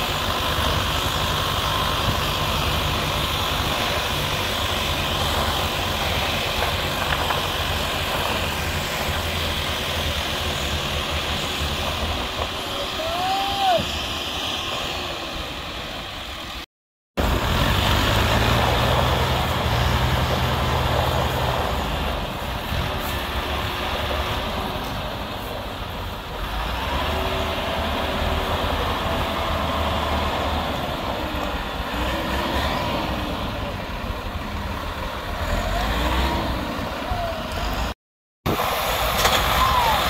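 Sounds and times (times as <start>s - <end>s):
tractor diesel engines under load: 0.0s - 40.0s.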